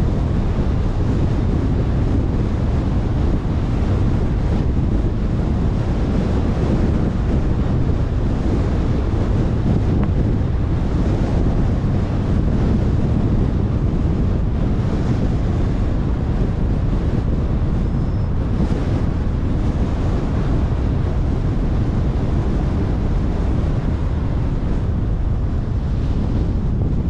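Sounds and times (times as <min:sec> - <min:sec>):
low road rumble: 0:00.0 - 0:27.0
wind buffeting microphone: 0:00.0 - 0:27.0.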